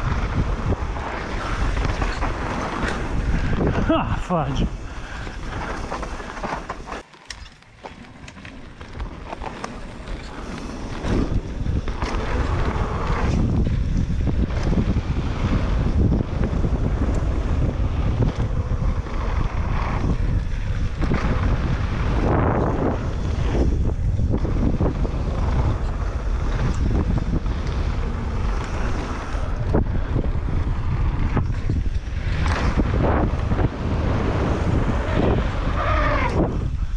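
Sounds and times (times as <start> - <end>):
wind buffeting microphone: 0.0 - 7.0, 8.7 - 36.9
tyres rumbling over dirt trail: 0.0 - 36.9.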